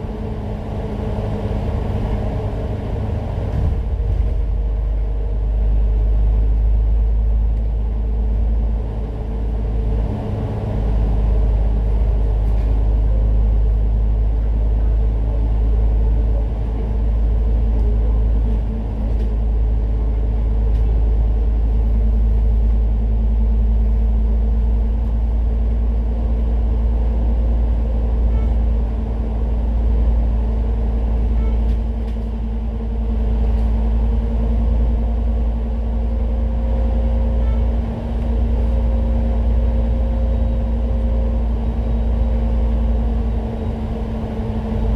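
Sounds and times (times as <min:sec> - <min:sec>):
bus engine hum: 0:00.0 - 0:44.9
road rumble: 0:00.0 - 0:44.9.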